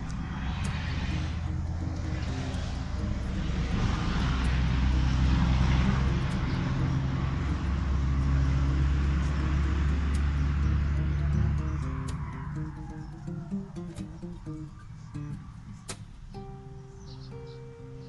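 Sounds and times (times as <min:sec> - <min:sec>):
rushing noise: 0:00.0 - 0:15.8
low engine drone: 0:00.0 - 0:17.4.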